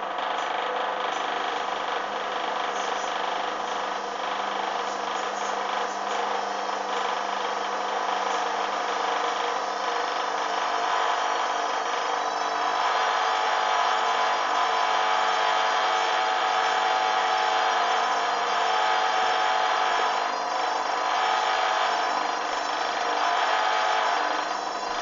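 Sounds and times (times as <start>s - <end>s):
washing machine drum motor whining: 0.0s - 25.0s.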